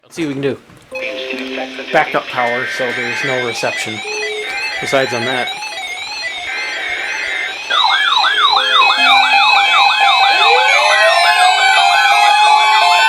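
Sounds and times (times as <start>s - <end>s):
pulsed beeping: 0.9s - 11.8s
rising wail tone: 0.9s - 13.0s
fast-warbling siren tone: 1.0s - 13.0s.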